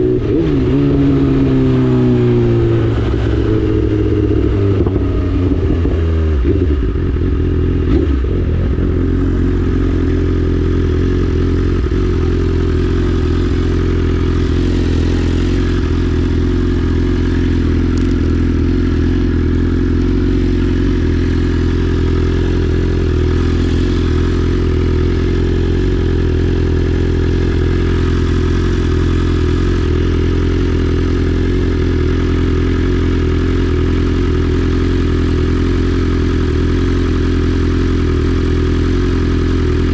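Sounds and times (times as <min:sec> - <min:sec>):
motorcycle engine idling loudly: 0:00.0 - 0:39.9.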